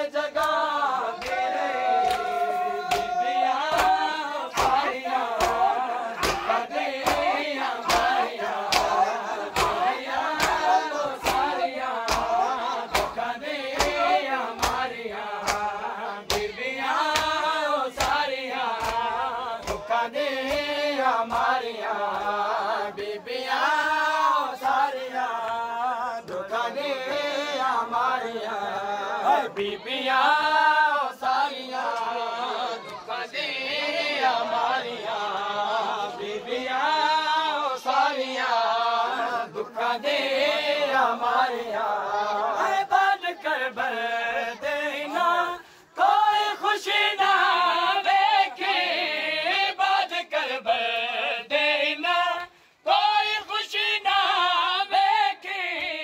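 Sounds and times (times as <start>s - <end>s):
men chanting a lament in unison: 0.0s - 56.0s.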